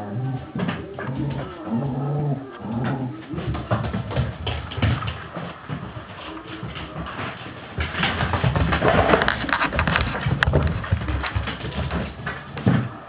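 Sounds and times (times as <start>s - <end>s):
dog paws scuffling on floor: 0.0s - 13.0s.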